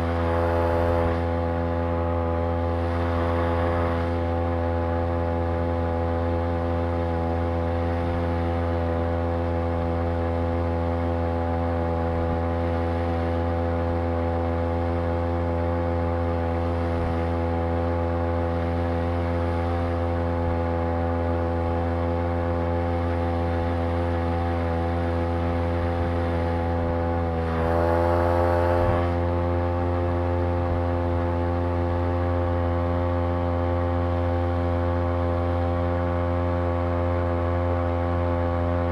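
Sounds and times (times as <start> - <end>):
two-stroke outboard motor running: 0.0 - 38.9.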